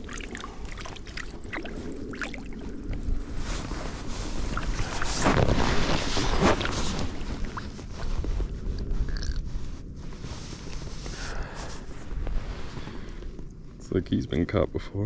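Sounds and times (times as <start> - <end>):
water splashing and sloshing: 0.0 - 13.5
wind rumble on microphone: 0.0 - 15.0.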